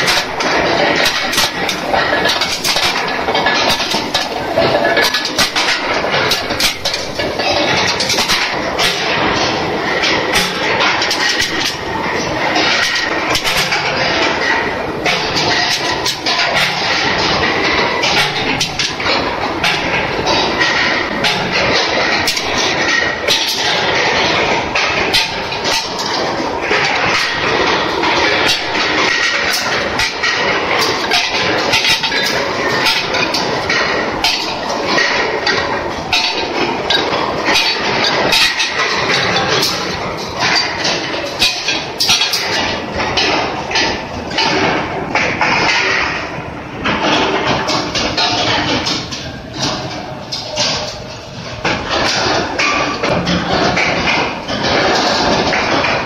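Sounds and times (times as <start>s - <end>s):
rolling mill clatter: 0.0s - 56.0s
steel balls clanking: 0.0s - 56.0s.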